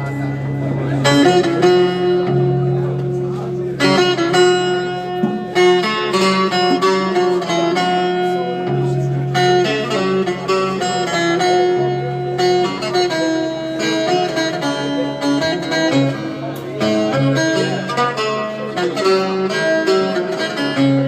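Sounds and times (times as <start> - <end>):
plucked string instrument music: 0.0 - 21.0.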